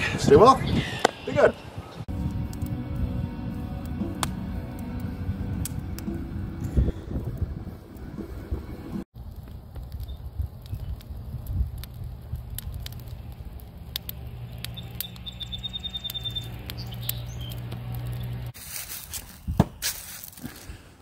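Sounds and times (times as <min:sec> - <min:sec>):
fire crackling and popping: 0:00.0 - 0:20.9.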